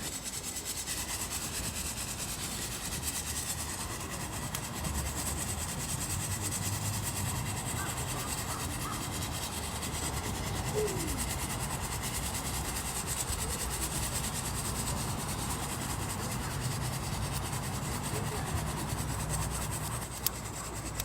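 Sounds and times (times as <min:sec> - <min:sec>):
bonfire roaring: 0:01.4 - 0:21.0.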